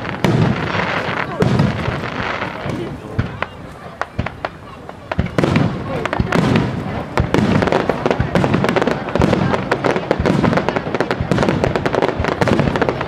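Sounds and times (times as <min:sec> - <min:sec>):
fireworks crackling: 0:00.0 - 0:13.0
low booming: 0:00.0 - 0:13.0.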